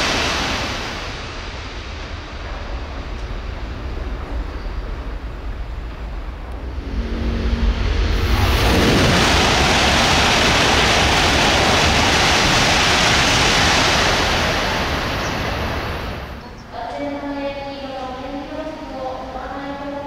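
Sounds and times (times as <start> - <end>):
approaching train rumble: 0.0 - 20.0
high-speed train rushing past: 0.0 - 20.0.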